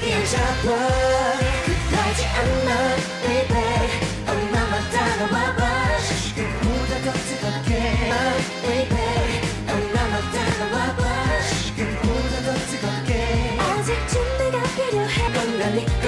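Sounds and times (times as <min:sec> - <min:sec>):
dance-pop song with vocals: 0:00.0 - 0:16.0.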